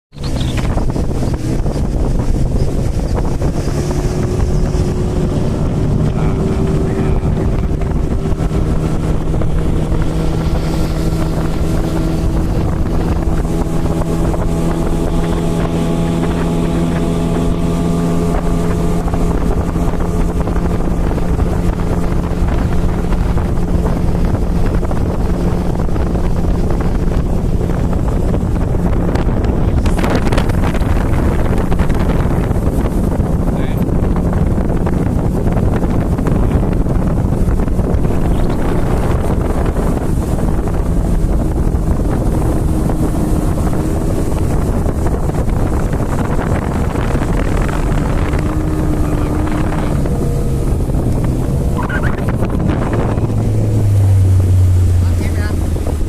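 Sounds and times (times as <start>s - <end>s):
boat engine running: 0.1s - 56.0s
wind buffeting microphone: 0.1s - 56.0s.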